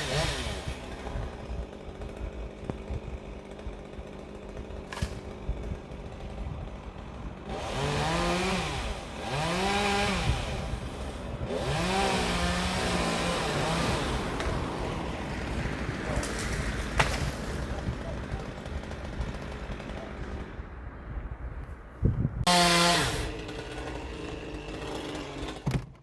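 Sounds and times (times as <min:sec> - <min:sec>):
chainsaw idling and revving: 0:00.0 - 0:21.0, 0:22.4 - 0:25.8.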